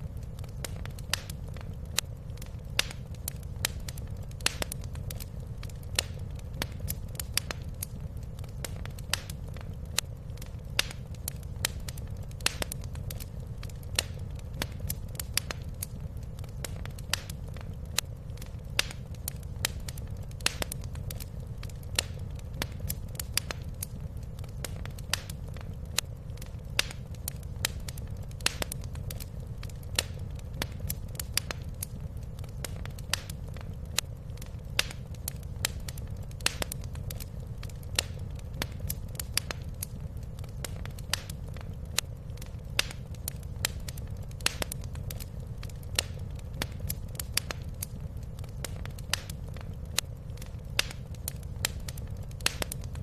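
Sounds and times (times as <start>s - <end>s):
low fire rumble: 0.0s - 53.0s
wood fire crackling: 0.0s - 53.0s.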